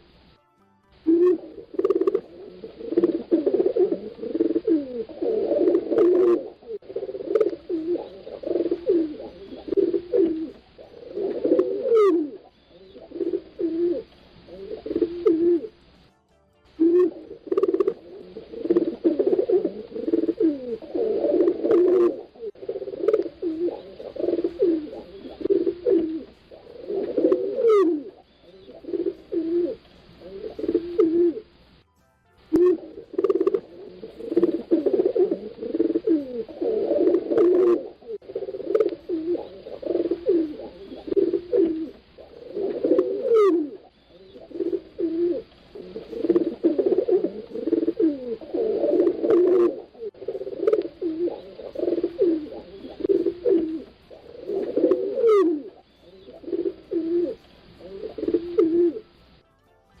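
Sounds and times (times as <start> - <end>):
pigeons cooing: 1.1 - 15.9, 16.8 - 31.7, 32.5 - 59.4.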